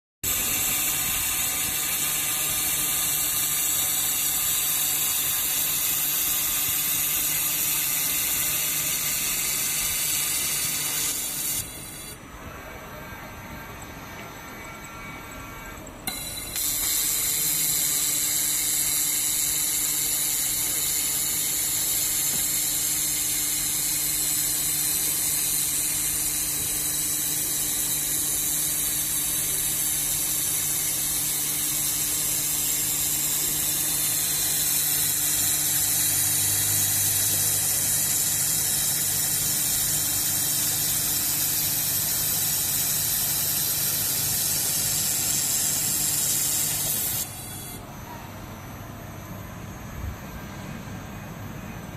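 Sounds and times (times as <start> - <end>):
high-pitched machine hiss: 0.2 - 51.9
low machine hum: 0.2 - 51.9.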